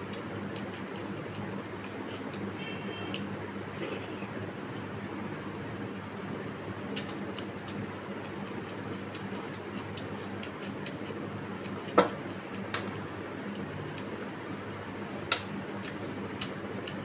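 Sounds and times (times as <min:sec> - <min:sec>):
close-miked chewing: 0:00.0 - 0:05.0, 0:07.0 - 0:14.8, 0:15.7 - 0:17.0
steady background hum: 0:00.0 - 0:17.0.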